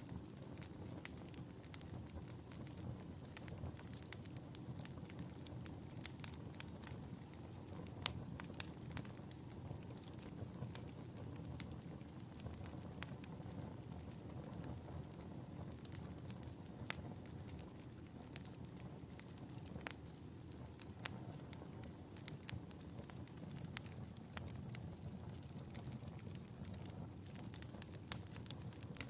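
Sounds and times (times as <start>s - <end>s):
wood fire crackling and popping: 0.0s - 29.0s
low rush of flames: 0.1s - 29.0s.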